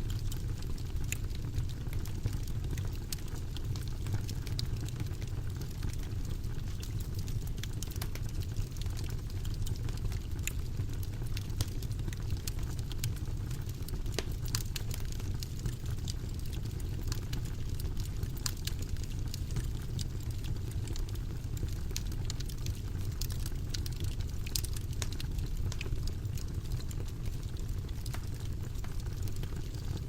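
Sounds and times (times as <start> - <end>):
fire crackles and pops: 0.0 - 30.0
low roar of flames: 0.1 - 30.0.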